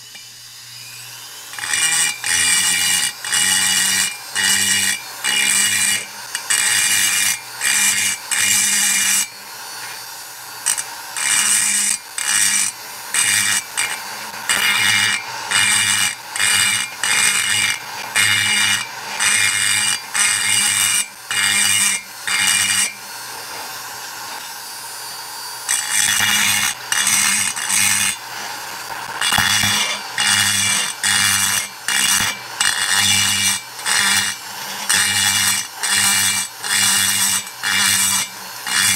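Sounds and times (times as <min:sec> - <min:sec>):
grinder bit grinding metal: 0:00.0 - 0:38.9
grinder motor running: 0:00.0 - 0:38.9.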